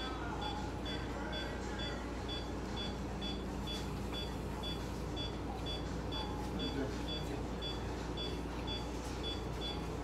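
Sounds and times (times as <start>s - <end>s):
monitor beeping: 0.0s - 10.0s.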